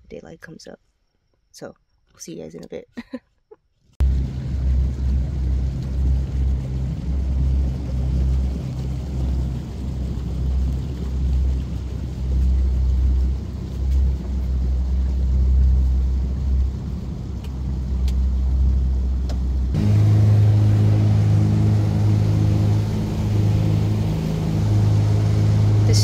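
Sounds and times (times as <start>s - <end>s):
motorboat engine droning: 4.0s - 26.0s.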